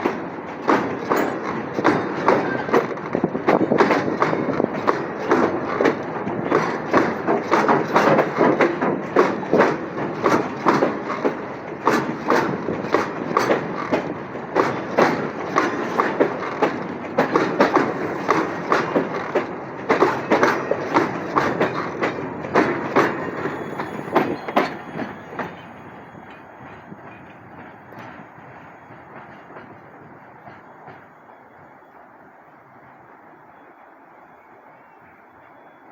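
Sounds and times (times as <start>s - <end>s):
wheels clicking over rail joints: 0.0s - 31.1s
freight train rumble: 0.0s - 35.9s.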